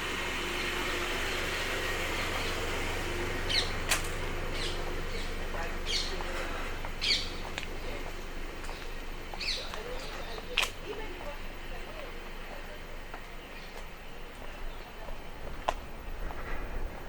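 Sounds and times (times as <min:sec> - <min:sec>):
rushing noise with low rumble: 0:00.0 - 0:17.0.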